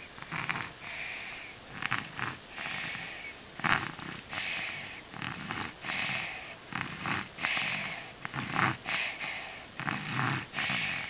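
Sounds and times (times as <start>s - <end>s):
baby snoring: 0.0s - 11.0s.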